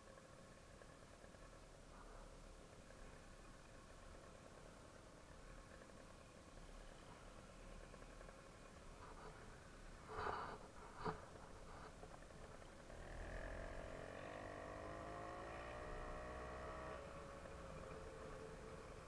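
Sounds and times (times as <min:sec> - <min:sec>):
faint engine running: 0:00.0 - 0:19.0.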